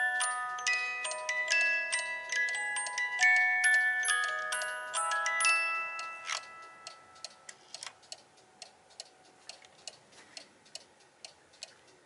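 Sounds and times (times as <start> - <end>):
clock music: 0.0 - 12.0
clock ticking: 0.0 - 12.0.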